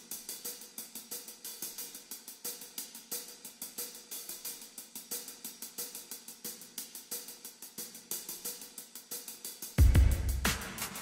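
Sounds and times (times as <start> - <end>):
drum kit groove: 0.0 - 11.0
quick hi-hat strokes: 0.0 - 11.0.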